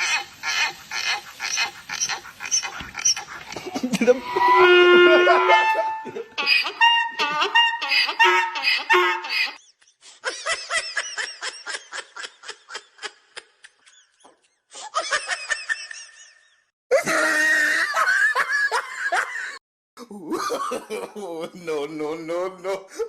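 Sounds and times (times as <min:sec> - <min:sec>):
hearty laughter: 0:02.7 - 0:04.4, 0:05.1 - 0:23.0.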